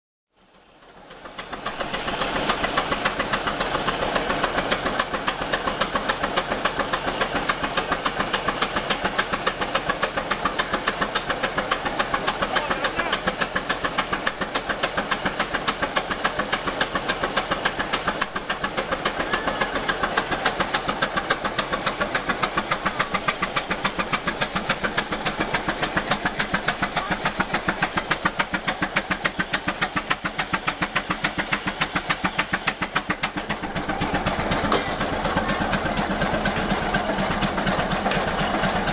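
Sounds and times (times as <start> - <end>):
tractor engine exhaust popping: 0.3 - 38.9.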